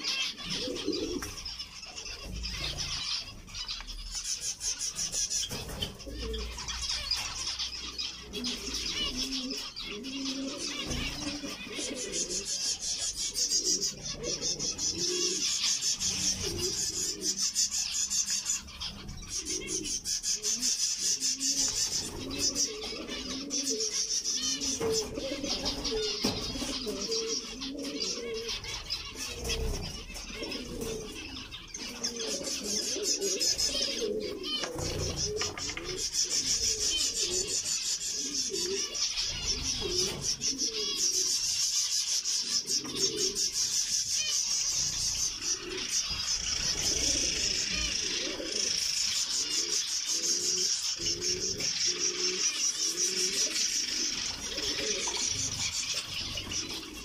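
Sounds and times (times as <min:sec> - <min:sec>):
doves cooing: 0:00.0 - 0:57.0
finches chattering: 0:00.0 - 0:57.0.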